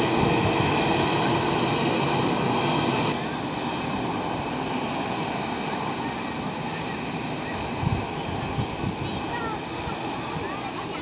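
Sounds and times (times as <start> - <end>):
airliner engines at take-off power: 0.0 - 11.0
steady engine whining tones: 0.0 - 11.0.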